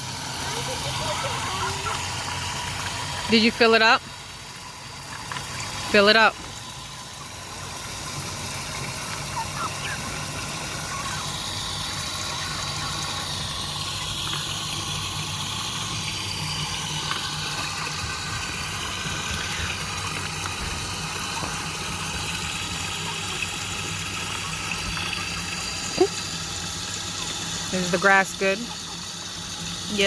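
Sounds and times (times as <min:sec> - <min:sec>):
water running from a hose: 0:00.0 - 0:30.0.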